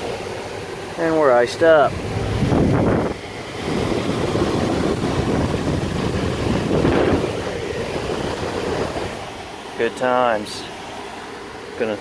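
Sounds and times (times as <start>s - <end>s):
air handler airflow rushing: 0.0s - 12.0s.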